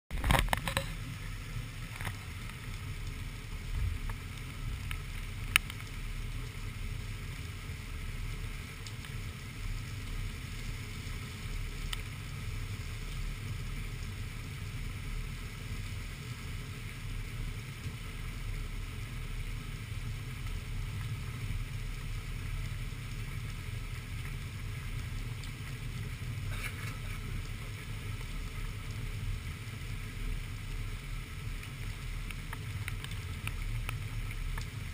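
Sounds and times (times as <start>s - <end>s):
heavy rain: 0.1s - 34.9s
raindrops ticking on camera: 0.1s - 34.9s
wind: 0.1s - 34.9s.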